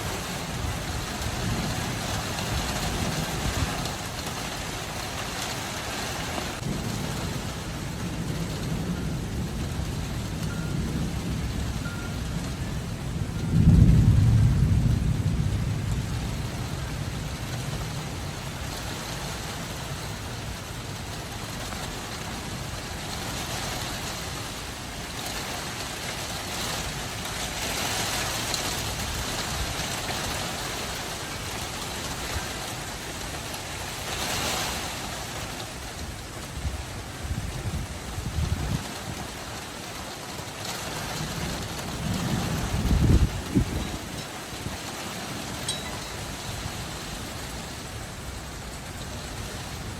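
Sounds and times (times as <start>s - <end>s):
steady rain falling: 0.0s - 49.9s
thunder rumble: 0.0s - 49.9s.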